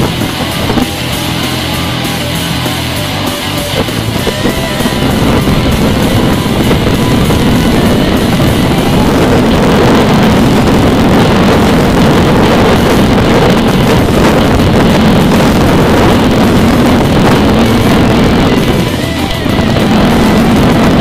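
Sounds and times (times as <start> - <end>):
car interior driving noise: 0.0 - 21.0.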